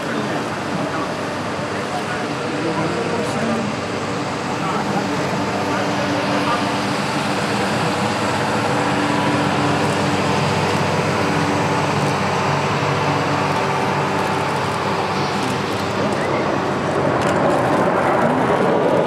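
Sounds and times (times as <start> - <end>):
jets flying past overhead: 0.0 - 19.0.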